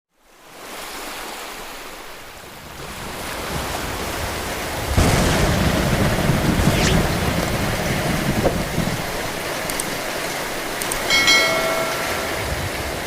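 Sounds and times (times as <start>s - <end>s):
heavy rain with wind: 0.2s - 13.0s.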